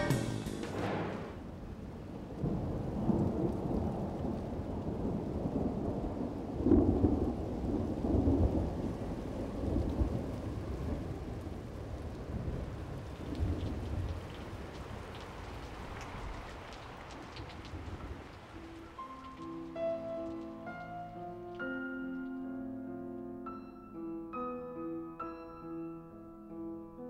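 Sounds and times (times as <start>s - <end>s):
thunder rumbling: 0.0s - 22.4s
steady rain: 0.0s - 23.6s.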